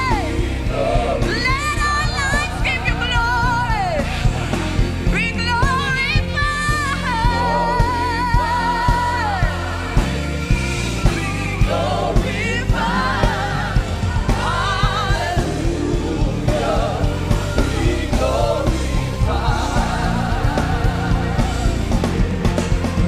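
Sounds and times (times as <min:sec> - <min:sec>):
band with bass and drums: 0:00.0 - 0:23.0
voices singing gospel: 0:00.0 - 0:23.0.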